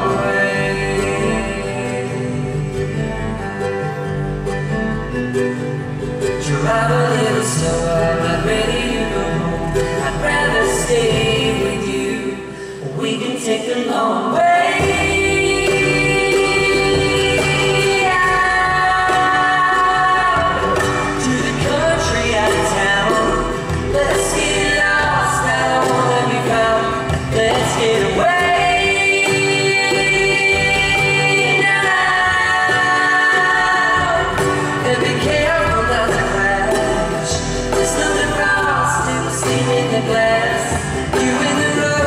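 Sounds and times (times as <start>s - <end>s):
voices singing in harmony: 0.0s - 3.9s, 6.2s - 42.0s
live band playing: 0.0s - 42.0s.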